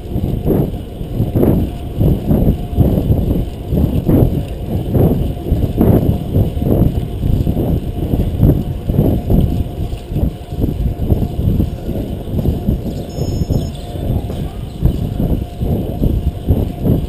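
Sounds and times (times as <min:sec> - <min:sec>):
bicycle road noise: 0:00.0 - 0:17.0
wind rumble on microphone: 0:00.0 - 0:17.0.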